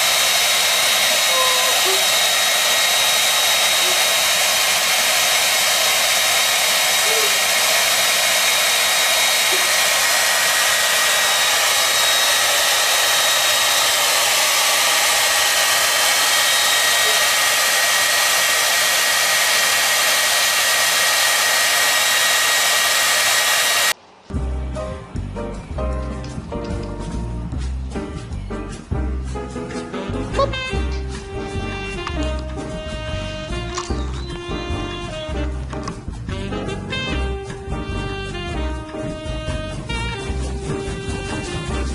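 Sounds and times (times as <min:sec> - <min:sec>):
hair dryer blowing: 0:00.0 - 0:24.0, 0:30.5 - 0:36.0, 0:36.8 - 0:41.9.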